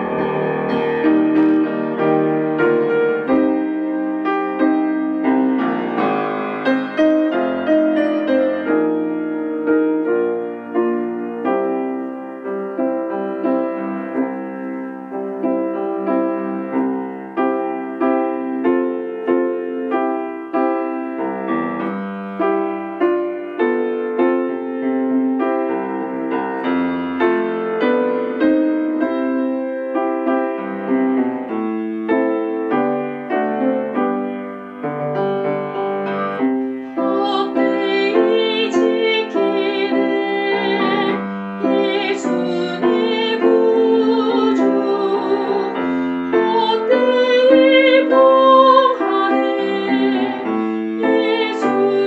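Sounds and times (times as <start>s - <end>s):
piano playing chords: 0.0s - 52.0s.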